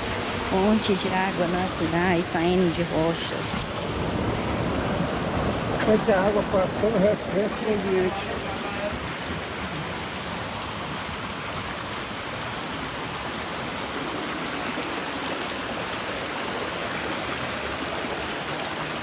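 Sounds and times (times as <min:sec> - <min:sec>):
spring water flowing and splashing: 0:00.0 - 0:19.0.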